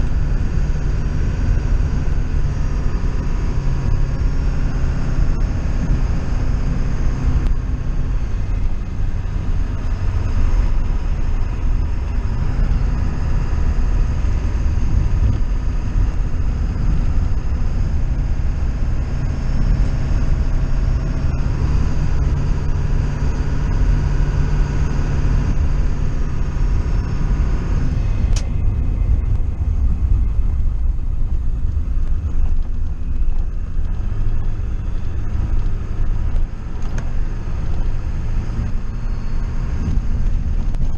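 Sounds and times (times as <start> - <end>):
vehicle rumble: 0.0 - 40.9.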